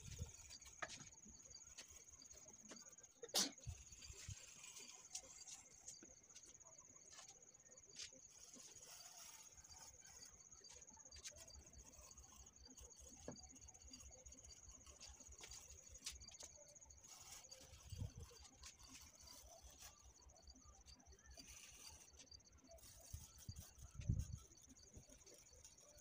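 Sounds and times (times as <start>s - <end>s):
cricket trill: 0.0s - 26.0s.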